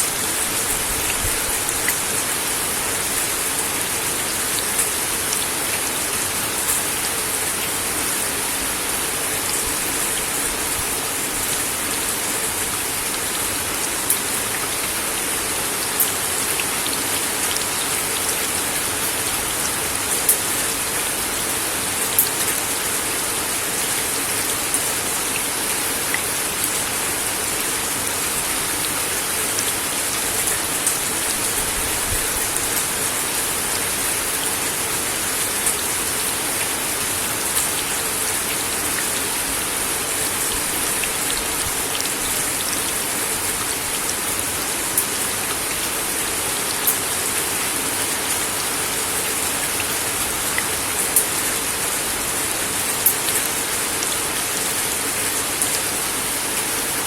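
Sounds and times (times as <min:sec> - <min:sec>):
rain on a wooden deck: 0:00.0 - 0:57.0.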